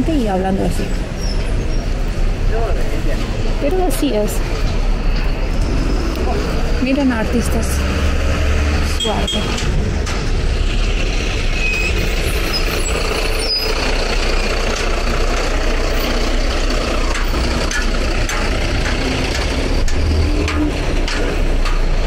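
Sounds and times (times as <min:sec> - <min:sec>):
heavy vehicle: 0:00.0 - 0:22.0
street traffic rumble: 0:00.0 - 0:22.0.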